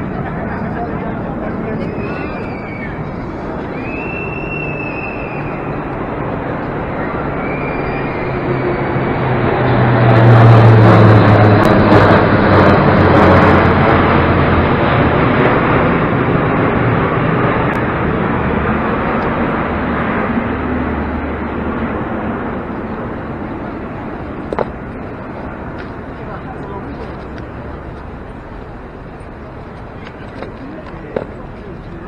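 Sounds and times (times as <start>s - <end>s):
military jets flying overhead: 0.0s - 32.0s.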